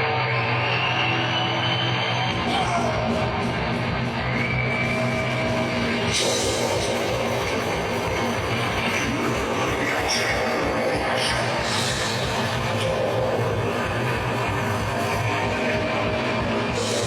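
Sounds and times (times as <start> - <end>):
distorted electric guitars: 0.0 - 17.0
fast drumming: 2.3 - 17.0.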